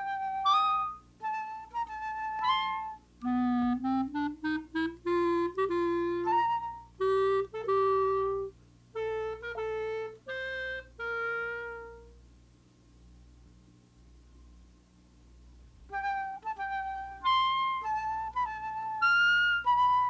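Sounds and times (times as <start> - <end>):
solo woodwind melody: 0.0 - 12.2, 15.8 - 20.0.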